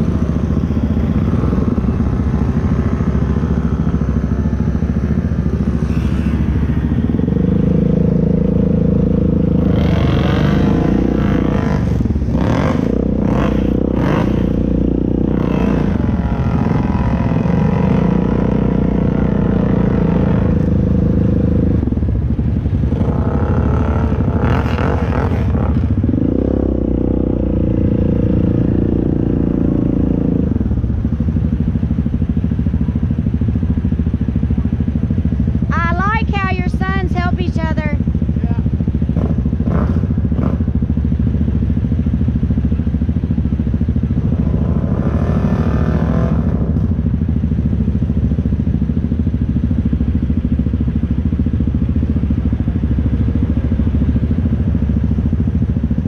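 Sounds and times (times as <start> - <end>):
atv engine under load: 0.0 - 56.0.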